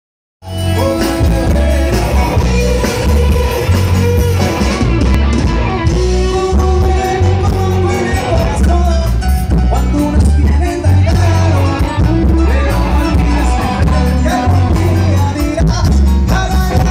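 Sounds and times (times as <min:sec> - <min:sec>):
live rock band playing: 0:00.4 - 0:16.9
person singing: 0:00.5 - 0:16.9.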